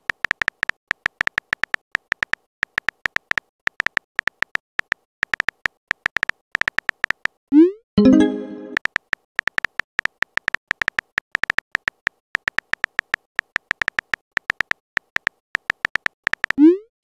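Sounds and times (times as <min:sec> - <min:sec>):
synthetic keyboard clicks: 0:00.0 - 0:07.4, 0:08.0 - 0:16.8.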